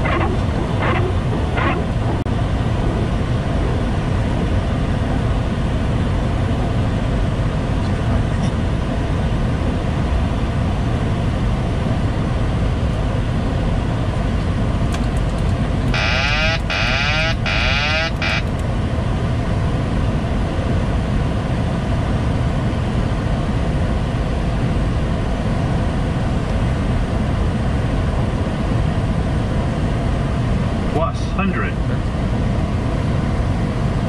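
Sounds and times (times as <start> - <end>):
airflow rushing in cockpit: 0.0 - 34.0
jet engines droning: 0.0 - 34.0.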